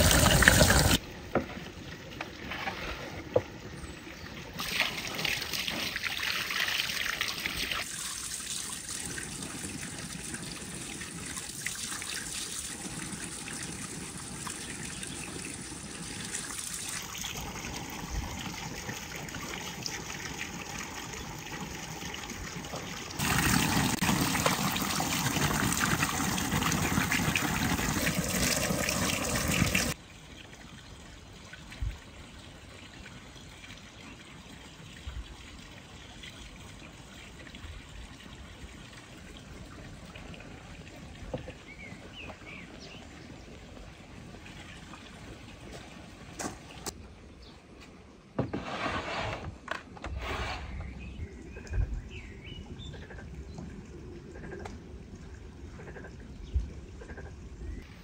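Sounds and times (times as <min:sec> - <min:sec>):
water trickling and splashing: 0:00.0 - 0:47.5, 0:50.7 - 0:58.0.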